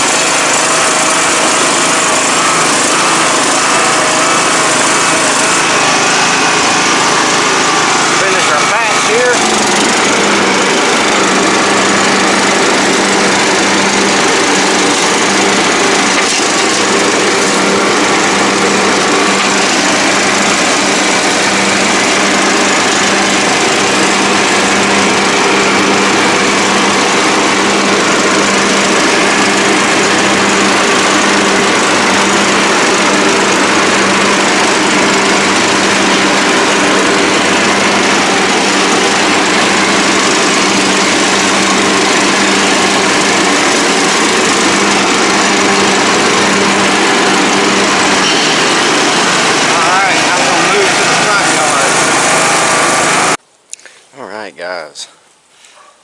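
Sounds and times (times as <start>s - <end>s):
riding mower engine running: 0.0s - 53.5s.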